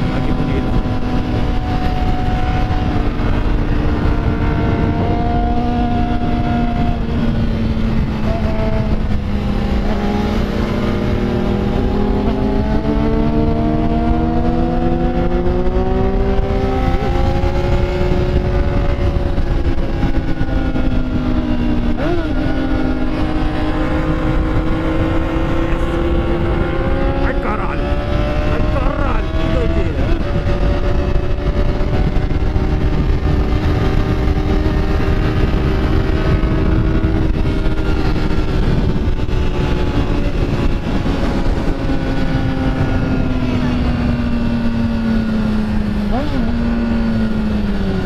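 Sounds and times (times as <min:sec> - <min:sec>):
motorcycle engine running: 0:00.0 - 0:48.0
wind rumble on microphone: 0:00.0 - 0:48.0.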